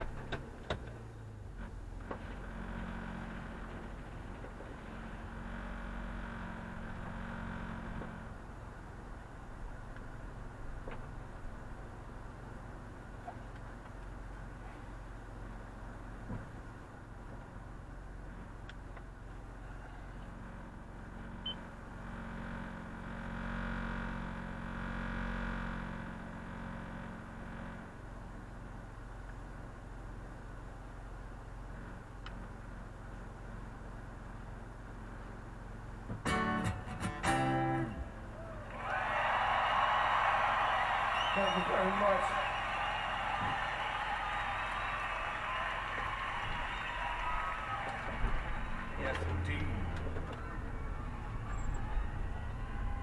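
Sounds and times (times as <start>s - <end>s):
vehicle engine low drone: 0.0s - 53.0s.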